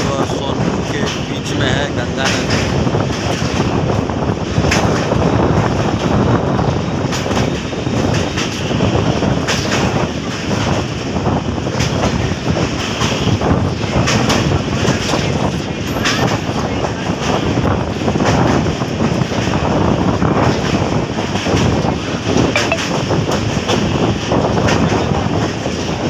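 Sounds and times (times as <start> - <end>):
train rumbling over bridge: 0.0 - 26.0.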